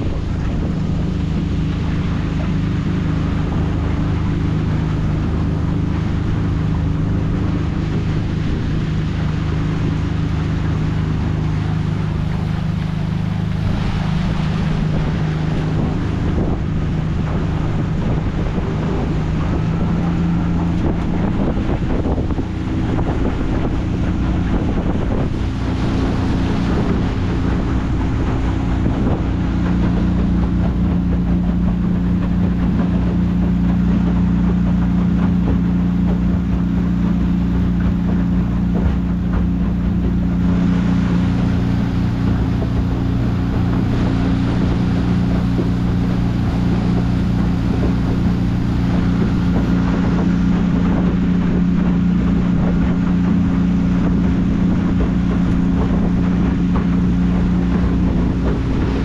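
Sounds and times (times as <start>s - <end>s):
boat motor running: 0.0s - 59.0s
wind: 0.0s - 59.0s.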